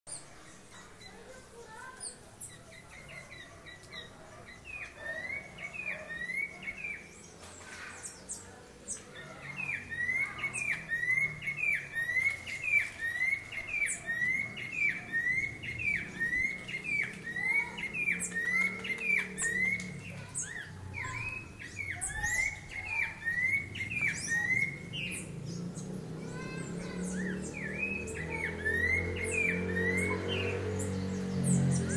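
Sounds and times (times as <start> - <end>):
bird singing down-slurred notes: 0.1 - 31.9
higher bird chirps: 0.1 - 31.9.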